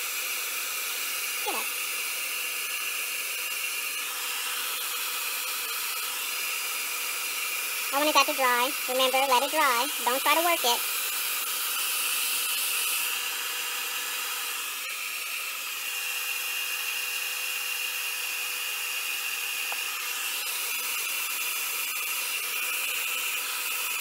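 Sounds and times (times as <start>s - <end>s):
blow dryer whining: 0.0s - 24.0s.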